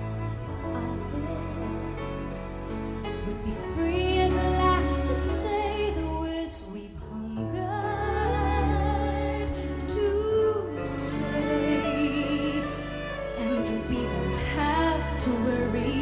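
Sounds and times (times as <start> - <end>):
slow orchestral ballad music: 0.0 - 16.0.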